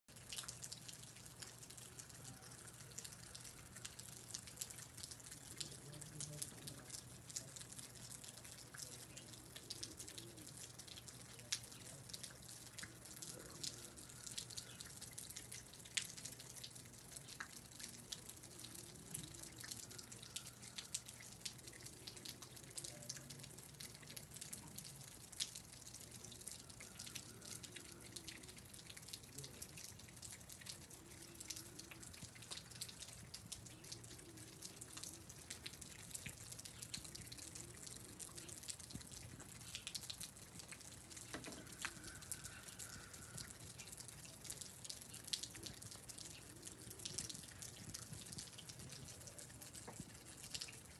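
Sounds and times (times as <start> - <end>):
water dripping: 0.1 - 50.9.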